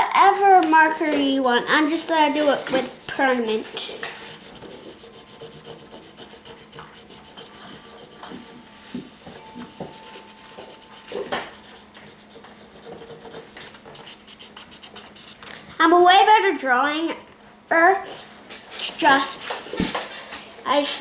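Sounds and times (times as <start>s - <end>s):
marker scrubbing on paper: 0.0s - 16.0s, 18.8s - 21.0s.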